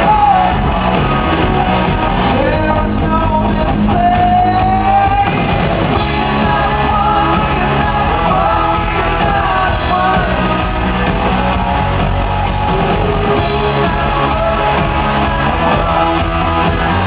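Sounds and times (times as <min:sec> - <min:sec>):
person singing: 0:00.0 - 0:17.0
rock band playing: 0:00.0 - 0:17.0.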